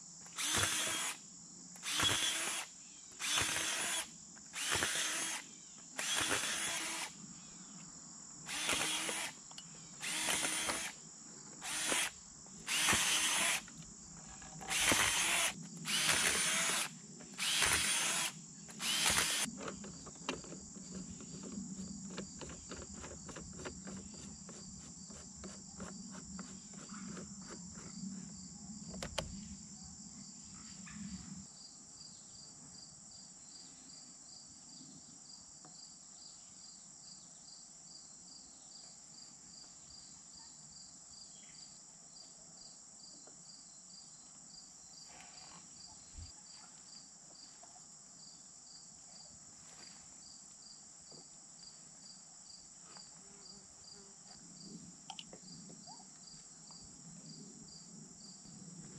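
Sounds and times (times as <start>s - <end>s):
insects chirping: 0.0s - 58.9s.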